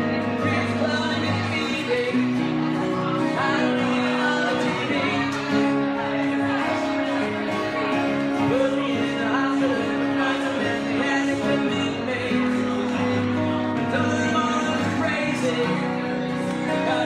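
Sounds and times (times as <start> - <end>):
man singing: 0.0 - 17.0
strummed acoustic guitar: 0.0 - 17.0.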